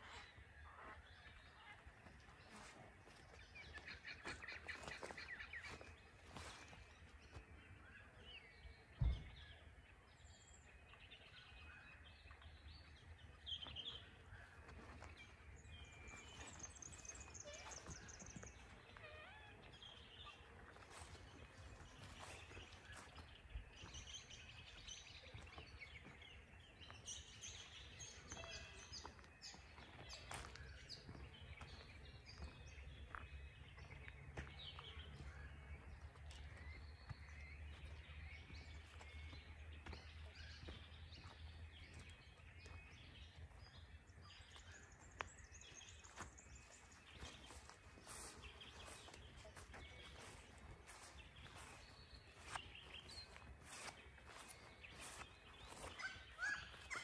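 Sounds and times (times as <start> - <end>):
birds chirping and calling: 0.0 - 9.7, 10.5 - 57.0.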